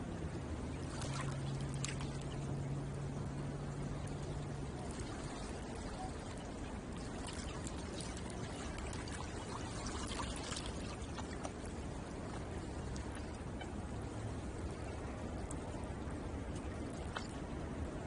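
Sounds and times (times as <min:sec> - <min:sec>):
low steady hum: 0:00.0 - 0:18.0
water lapping at shore: 0:00.0 - 0:18.0.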